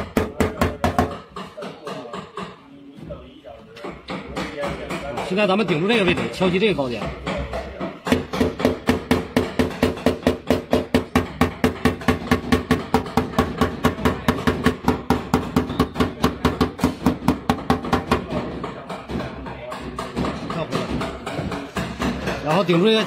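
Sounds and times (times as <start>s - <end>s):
hammer tapping sheet metal: 0.0s - 2.7s, 3.8s - 23.0s.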